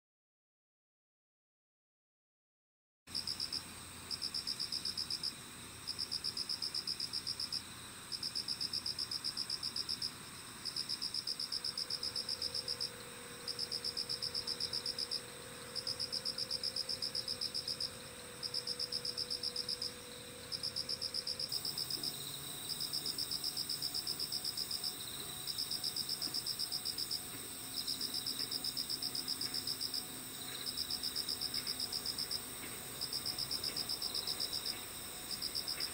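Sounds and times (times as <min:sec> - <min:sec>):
insect high-pitched buzz: 0:03.1 - 0:35.9
insect pulsed trills: 0:03.2 - 0:35.9.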